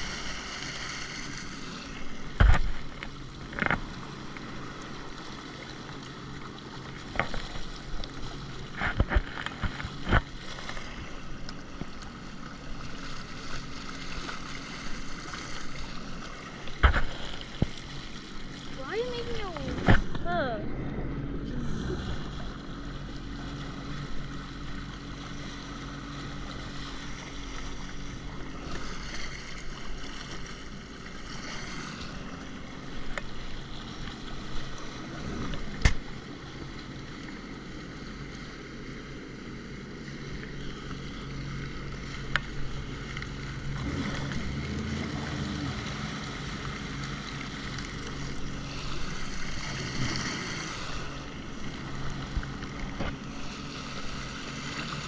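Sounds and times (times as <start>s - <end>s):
jet ski engine running: 0.0s - 55.0s
water noise: 0.0s - 55.0s
wind: 0.0s - 55.0s.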